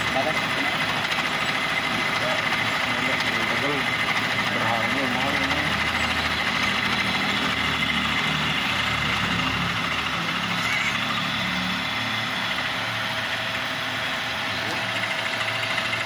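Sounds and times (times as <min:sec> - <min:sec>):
milling machine running: 0:00.0 - 0:16.0.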